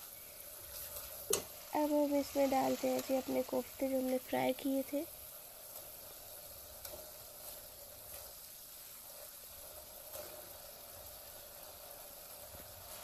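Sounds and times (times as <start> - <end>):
gravy simmering and sizzling: 0.0 - 13.0.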